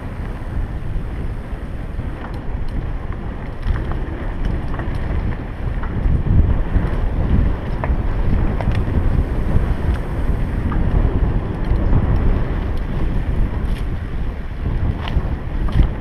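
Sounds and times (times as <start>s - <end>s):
bike ticking and rattling: 0.0s - 16.0s
wind buffeting microphone: 0.0s - 16.0s.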